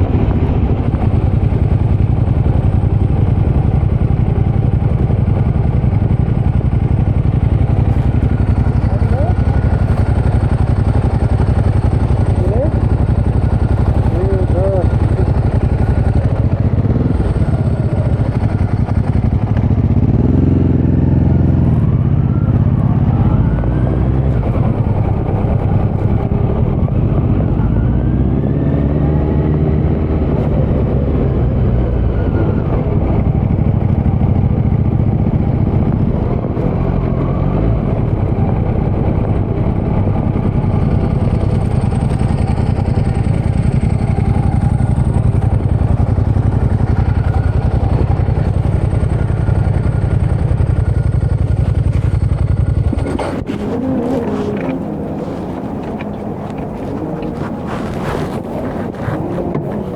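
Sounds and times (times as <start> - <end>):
motorcycle engine running loud: 0.0 - 59.9.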